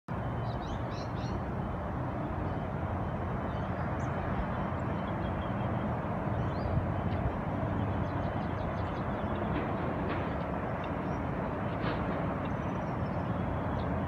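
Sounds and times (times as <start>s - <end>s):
outdoor rumble: 2.6s - 14.0s.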